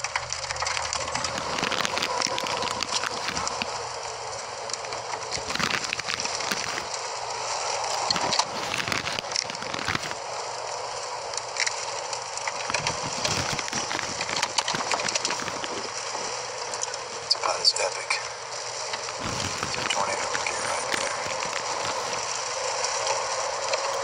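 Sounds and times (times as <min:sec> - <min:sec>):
crackle of sharp clicks and knocks: 0:00.0 - 0:10.7, 0:11.3 - 0:24.0.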